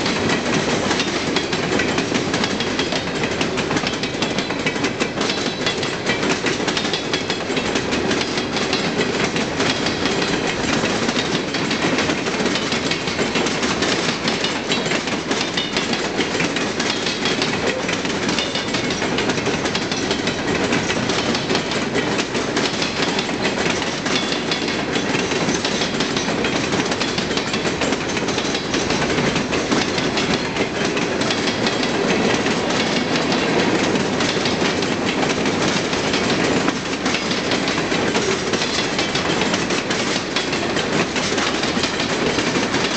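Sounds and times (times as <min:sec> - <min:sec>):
train cars rolling past: 0:00.0 - 0:42.9.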